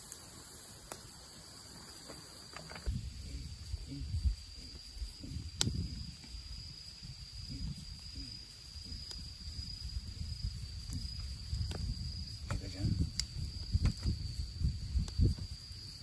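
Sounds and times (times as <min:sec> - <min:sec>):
high-pitched insect sound: 0:00.0 - 0:16.0.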